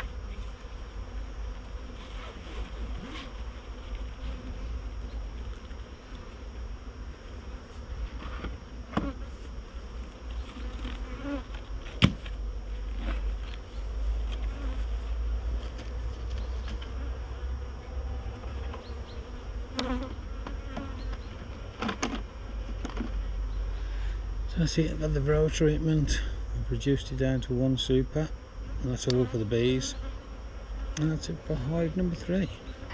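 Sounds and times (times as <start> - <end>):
honeybees buzzing: 0.0 - 32.9.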